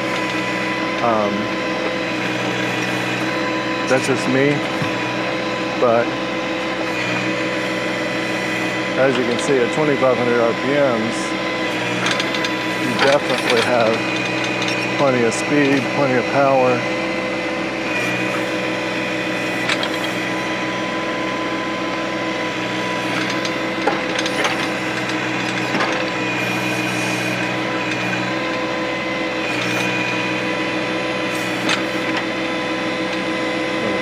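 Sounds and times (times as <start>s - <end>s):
hydraulic whining hum: 0.0s - 34.0s
tractor diesel engine running: 0.0s - 34.0s.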